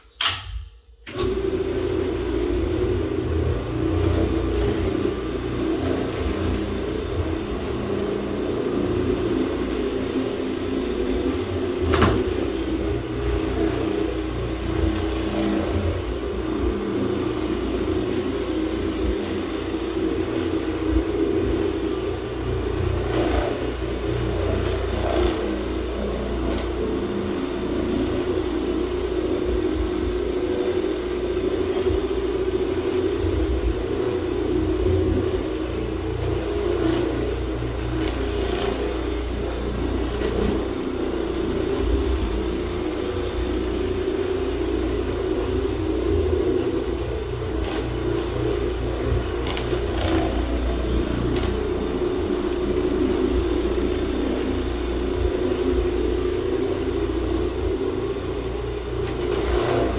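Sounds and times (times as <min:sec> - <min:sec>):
carpet cleaning machine hum: 0:01.0 - 0:59.9.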